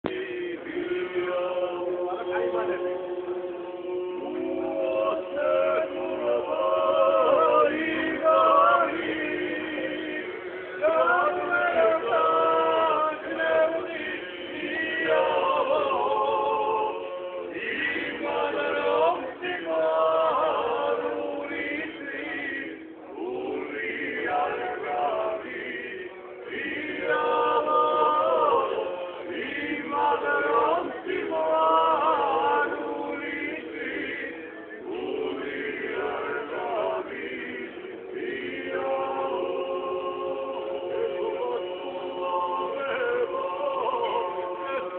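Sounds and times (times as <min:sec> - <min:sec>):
men singing in harmony: 0:00.0 - 0:44.9.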